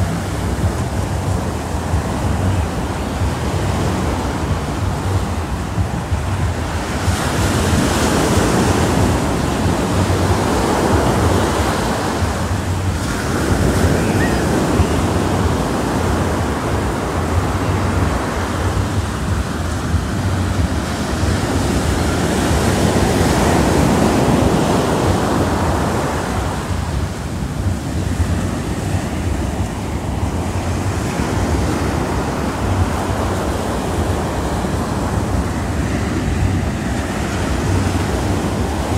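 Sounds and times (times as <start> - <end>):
ocean waves breaking on beach: 0.0 - 38.9
wind rumble on microphone: 0.0 - 38.9.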